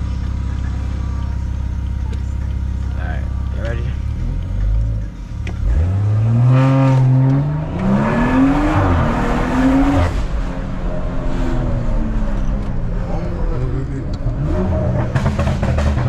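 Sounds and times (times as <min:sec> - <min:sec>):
car engine accelerating: 0:00.0 - 0:16.0
exhaust rush: 0:00.0 - 0:16.0.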